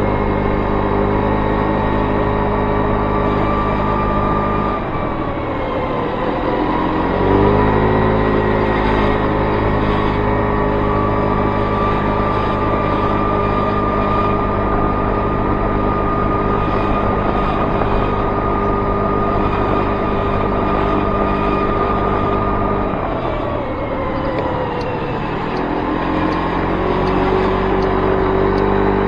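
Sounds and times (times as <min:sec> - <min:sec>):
moped engine running: 0:00.0 - 0:29.0
road noise: 0:00.0 - 0:29.0
wind noise: 0:00.0 - 0:29.0.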